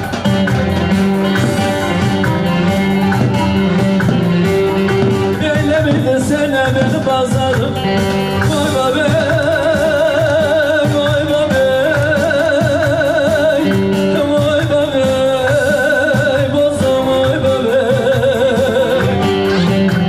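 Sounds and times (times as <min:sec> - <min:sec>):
folk dance melody with vibrato: 0:00.0 - 0:20.0
steady drum beat: 0:00.0 - 0:20.0.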